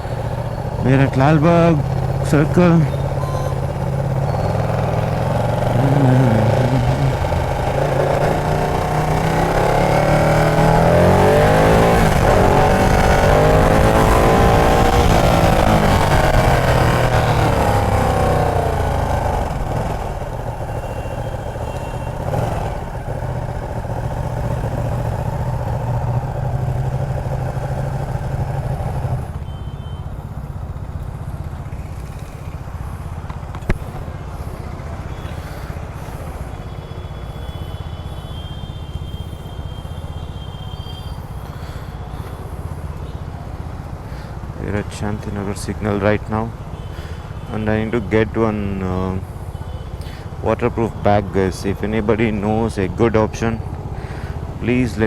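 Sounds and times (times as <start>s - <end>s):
motorcycle engine revving: 0.0s - 29.4s, 30.3s - 55.0s.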